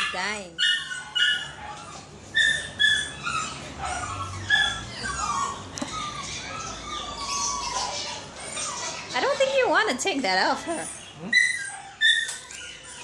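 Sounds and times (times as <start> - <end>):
small dog yelping and whining: 0.0 - 9.2, 11.3 - 13.0.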